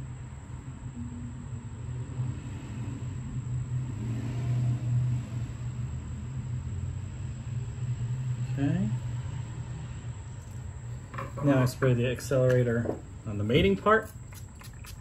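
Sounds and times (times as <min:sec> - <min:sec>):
faint high whine: 0:00.0 - 0:04.6, 0:05.2 - 0:14.2
low steady rumble: 0:00.0 - 0:15.0.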